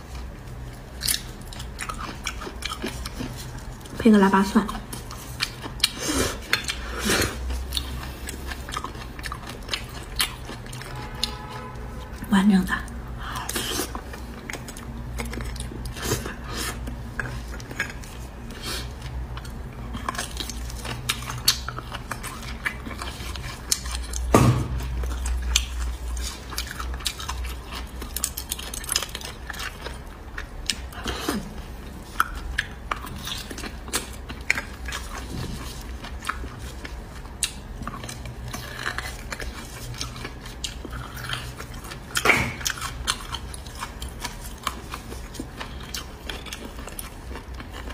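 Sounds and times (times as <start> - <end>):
close-up chewing: 0.0 - 47.9.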